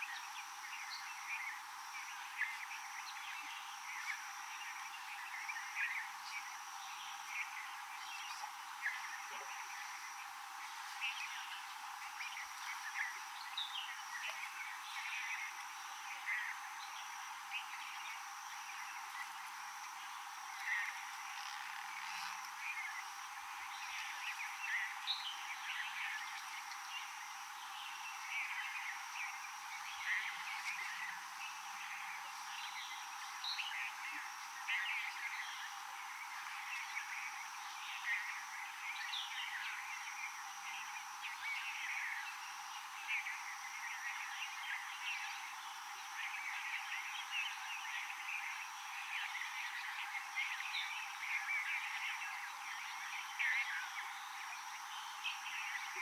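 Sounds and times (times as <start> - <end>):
steady high-pitched tone: 0.0 - 56.0.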